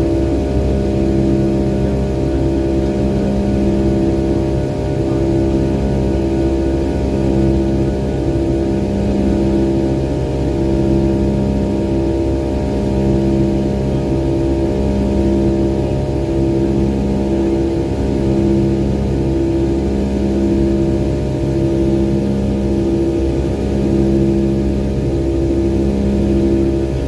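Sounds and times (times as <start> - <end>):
jet cabin drone: 0.0 - 27.0.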